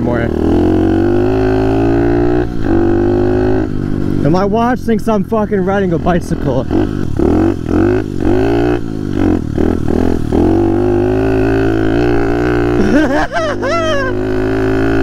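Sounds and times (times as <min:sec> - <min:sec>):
small motorbike engine revving: 0:00.0 - 0:04.2, 0:06.6 - 0:15.0.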